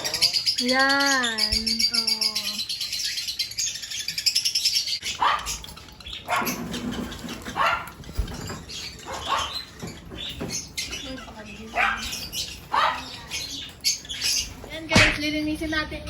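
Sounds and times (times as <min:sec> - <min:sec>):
parrots chirping: 0:00.0 - 0:16.0.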